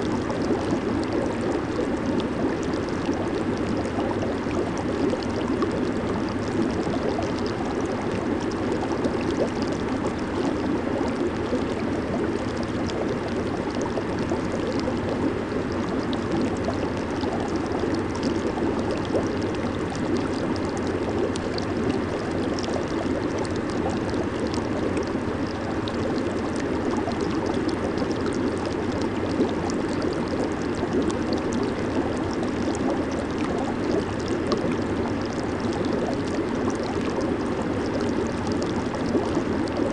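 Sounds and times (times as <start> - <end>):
hot tub jets bubbling: 0.0 - 39.9.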